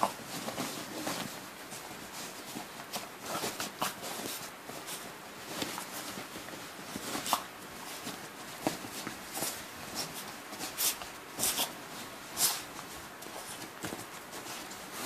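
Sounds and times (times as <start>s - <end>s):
bedding rustling: 0.0s - 15.0s.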